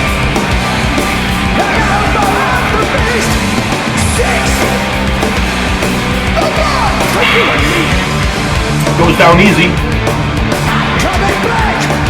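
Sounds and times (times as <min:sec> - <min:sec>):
heavy metal music: 0:00.0 - 0:12.0.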